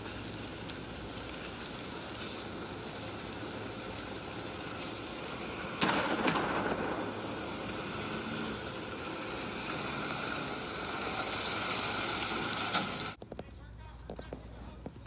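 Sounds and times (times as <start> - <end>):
loud crack: 0.0 - 13.5
fire crackling: 0.0 - 15.0.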